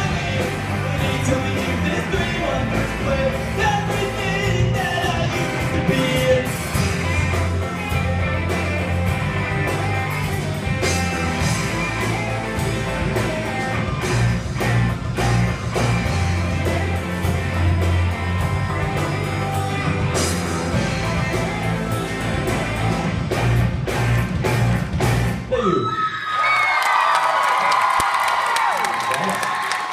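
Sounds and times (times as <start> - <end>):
electric guitars: 0.0 - 25.5
bass guitar: 0.0 - 25.8.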